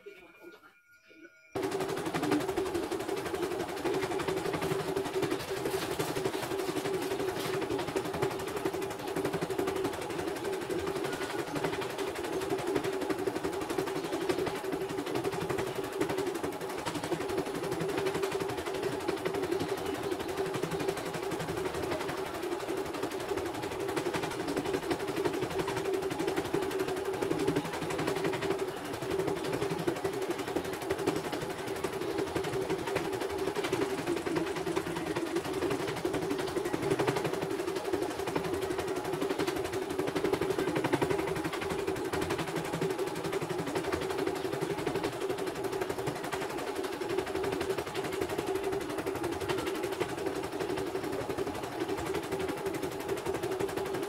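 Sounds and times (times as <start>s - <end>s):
motor hum: 1.6s - 54.0s
needle clatter: 1.6s - 54.0s.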